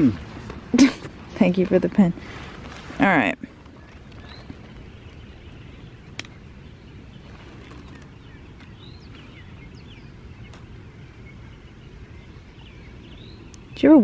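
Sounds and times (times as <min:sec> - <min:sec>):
faint birds chirping: 0:00.0 - 0:14.0
low outdoor rumble: 0:00.0 - 0:14.0.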